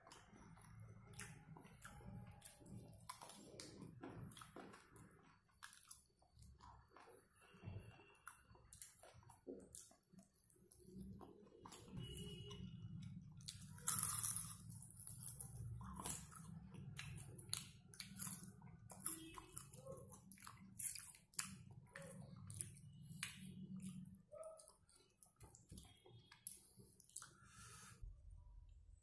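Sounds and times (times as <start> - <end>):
chewing with wet smacks: 0.0 - 27.6.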